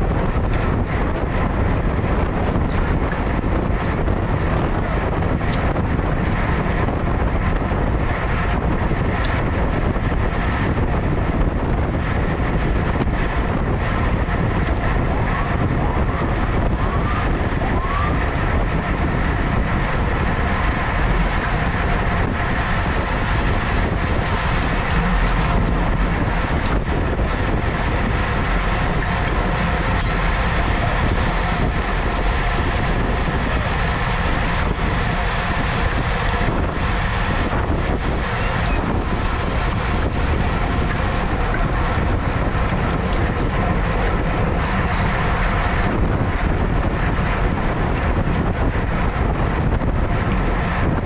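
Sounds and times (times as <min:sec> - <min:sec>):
bicycle tyres and drivetrains humming: 0:00.0 - 0:51.0
wind rushing over microphone: 0:00.0 - 0:51.0.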